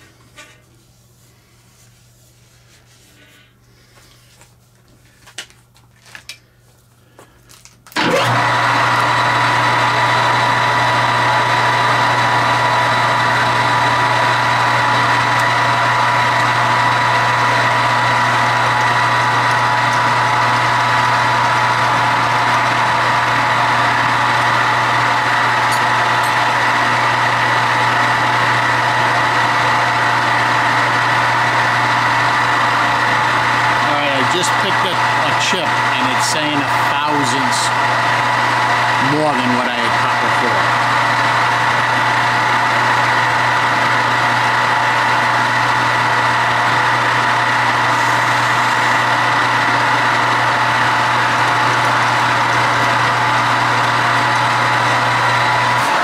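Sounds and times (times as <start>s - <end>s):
metal lathe whining: 8.0s - 56.0s.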